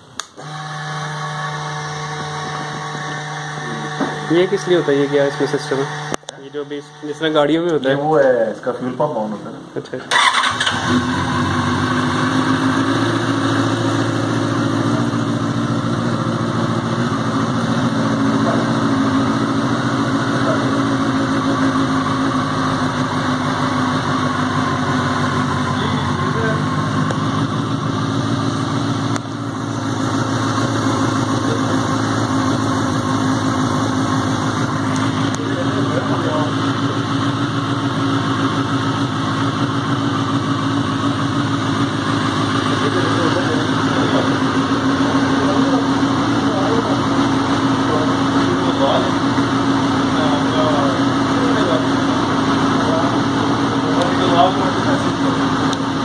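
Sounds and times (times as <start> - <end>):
motorcycle engine idling: 10.0 - 56.0.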